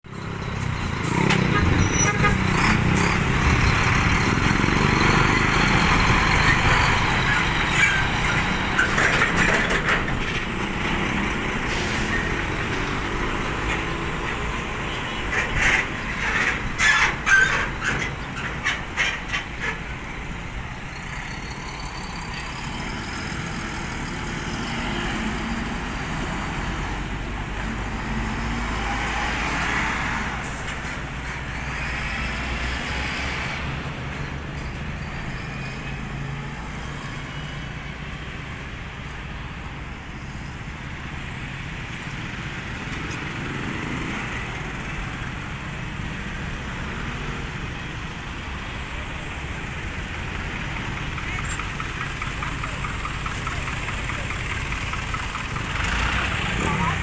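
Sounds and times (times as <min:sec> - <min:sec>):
road traffic passing: 0:00.0 - 0:57.0
truck diesel engine: 0:00.0 - 0:57.0.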